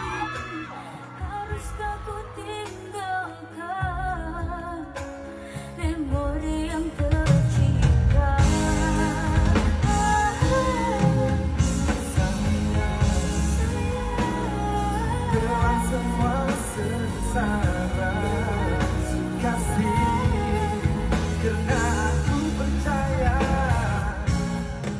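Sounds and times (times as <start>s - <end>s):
band with drums and guitar: 0.0s - 24.9s
person singing pop song: 0.0s - 24.9s.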